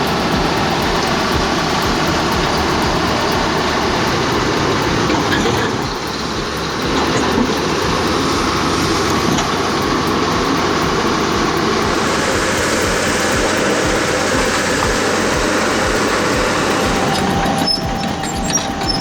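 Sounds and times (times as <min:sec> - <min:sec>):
excavator engine and tracks clattering: 0:00.0 - 0:19.0.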